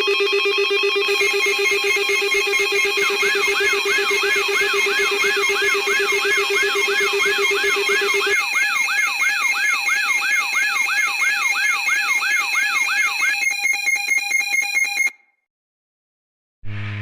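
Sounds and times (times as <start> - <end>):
rapid pulsing beep: 0.0 - 15.1
electronic alarm wailing: 0.0 - 15.2.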